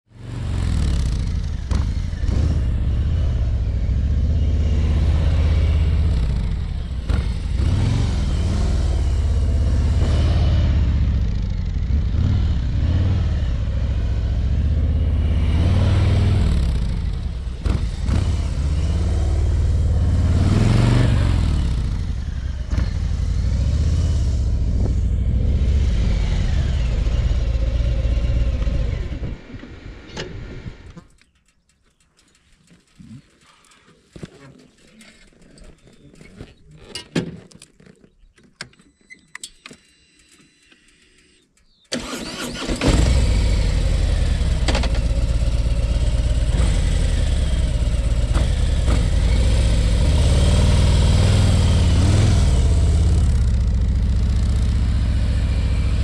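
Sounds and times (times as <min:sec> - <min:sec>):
motorcycle engine at low speed: 0:00.0 - 0:36.9, 0:40.2 - 0:56.0.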